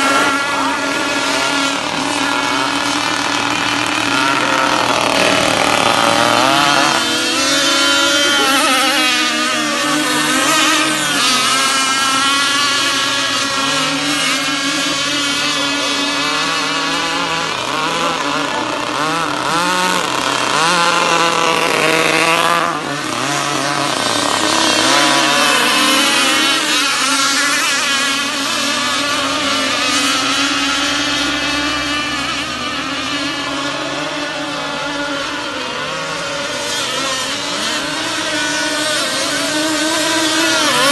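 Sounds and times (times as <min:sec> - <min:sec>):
model powerboat engines racing: 0:00.0 - 0:40.9.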